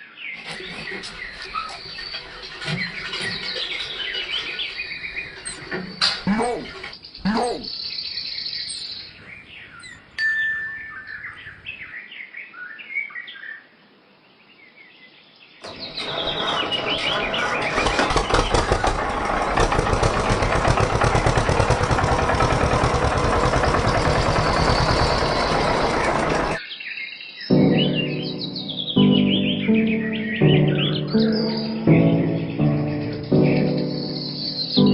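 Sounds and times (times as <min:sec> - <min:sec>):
birds chirping: 0:00.0 - 0:13.7, 0:14.4 - 0:34.9.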